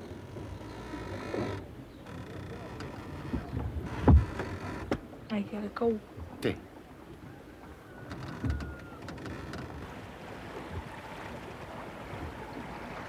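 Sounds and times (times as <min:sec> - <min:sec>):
water washing against boat: 0:00.0 - 0:13.0
wind: 0:00.0 - 0:13.0.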